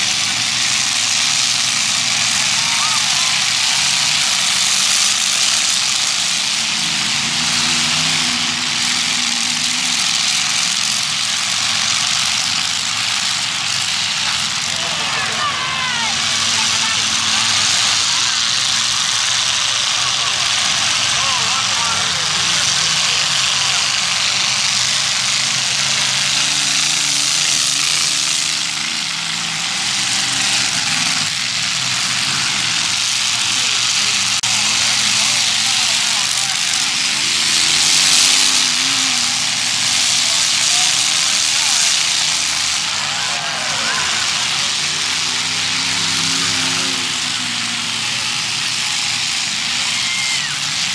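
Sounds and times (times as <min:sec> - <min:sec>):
car engines running loud: 0:00.0 - 0:50.9.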